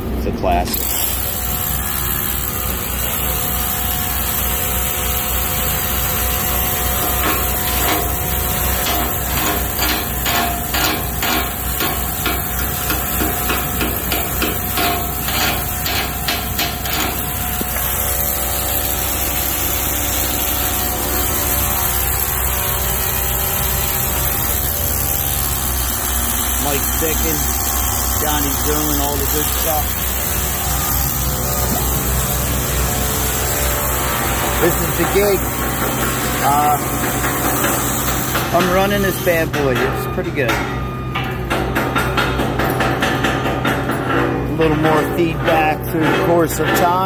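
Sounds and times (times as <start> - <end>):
engine running: 0.0 - 47.0
hammer strikes: 7.0 - 25.3, 26.1 - 47.0.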